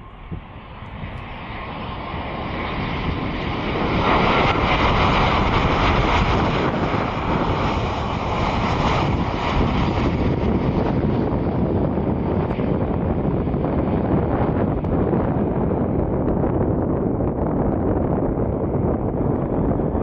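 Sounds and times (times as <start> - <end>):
airliner jet engines passing: 0.0 - 20.0.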